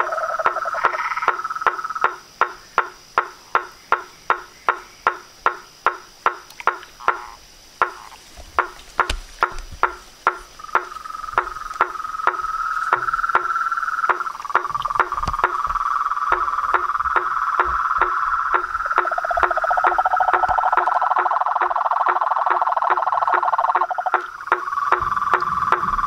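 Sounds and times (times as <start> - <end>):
frog trilling call: 0.0 - 26.0
frogs clicking calls: 0.0 - 26.0.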